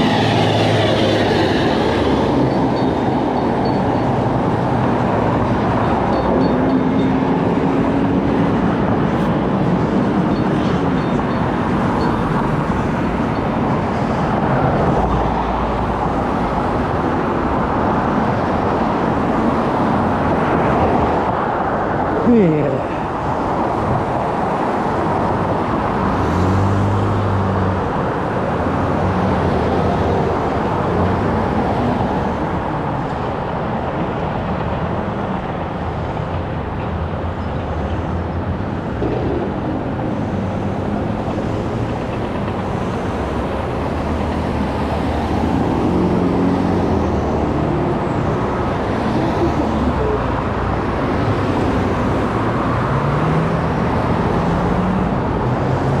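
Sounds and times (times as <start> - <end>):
road and tyre noise: 0.0 - 56.0.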